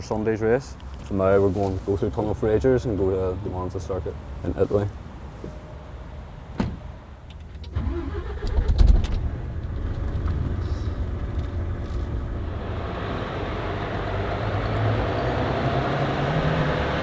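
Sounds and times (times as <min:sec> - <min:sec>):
diesel truck engine rumble: 0:01.0 - 0:17.0.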